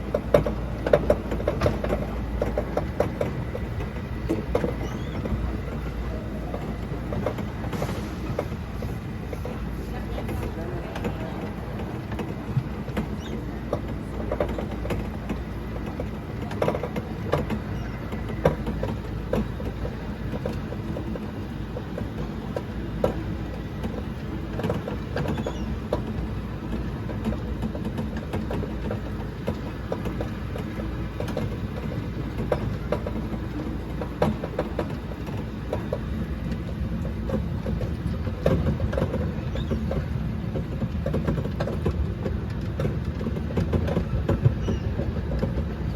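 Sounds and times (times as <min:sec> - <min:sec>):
cars rattling with clicks: 0:00.0 - 0:45.9
ride train rumble: 0:00.0 - 0:45.9.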